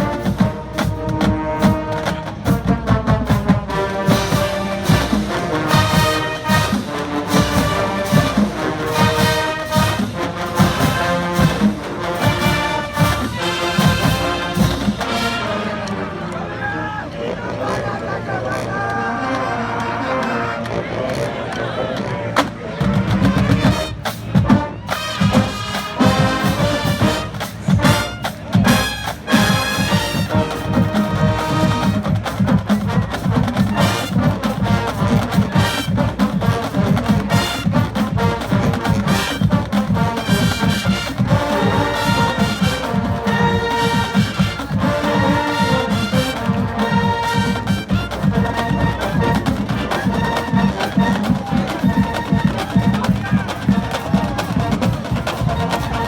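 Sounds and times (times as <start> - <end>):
steady drum beat: 0.0 - 15.6, 22.4 - 56.0
brass band playing: 0.0 - 56.0
trumpets and trombones: 0.0 - 56.0.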